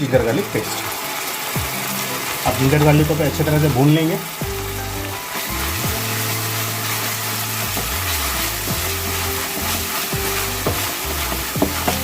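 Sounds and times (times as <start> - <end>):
paste sizzling in hot oil: 0.0 - 12.0
background music with bass line: 1.6 - 12.0.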